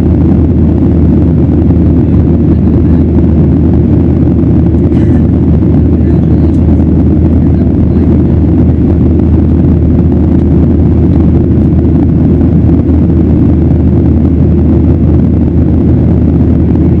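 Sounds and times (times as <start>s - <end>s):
jet engines roaring: 0.0s - 17.0s
rushing air: 0.0s - 17.0s.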